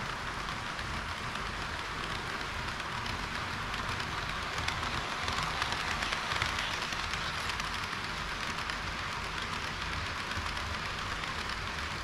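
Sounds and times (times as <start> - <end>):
model train wheels rattling: 0.0 - 12.0.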